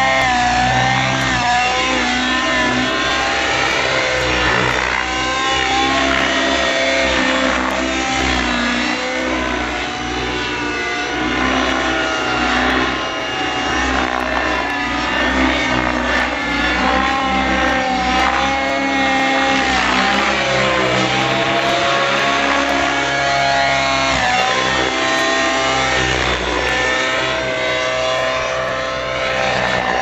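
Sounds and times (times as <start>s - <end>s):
rc helicopter rotor whine: 0.0s - 30.0s.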